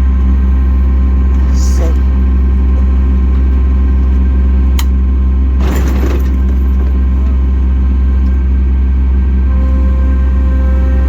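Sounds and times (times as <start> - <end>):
engine running with deep hum: 0.0 - 11.0.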